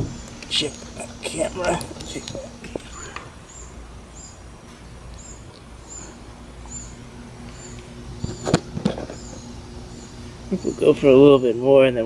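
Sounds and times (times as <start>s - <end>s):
faint steady hum: 0.0s - 12.0s
small bird chirping: 0.1s - 11.6s.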